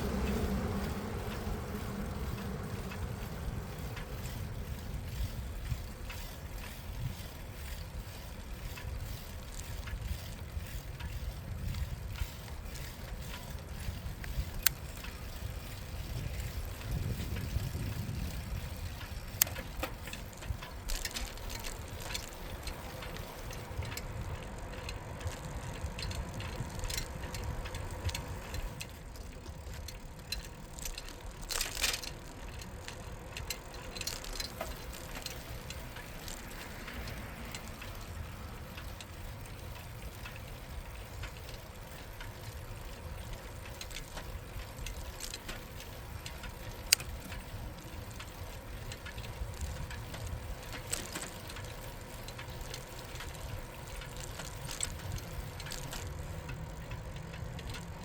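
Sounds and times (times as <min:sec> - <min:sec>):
bicycle rolling rumble: 0:00.0 - 0:58.0
bike rattles and ticks: 0:00.0 - 0:58.0.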